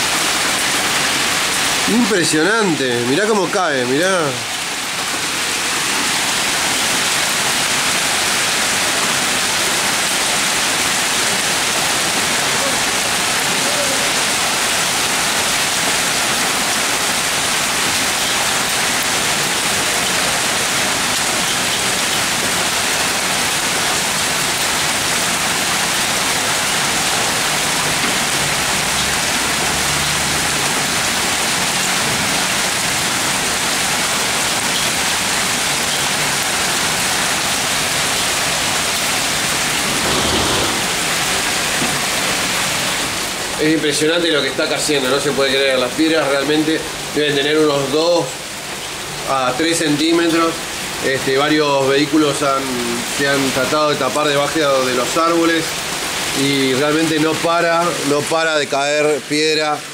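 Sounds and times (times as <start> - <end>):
hail and heavy rain on cars: 0.0 - 59.9.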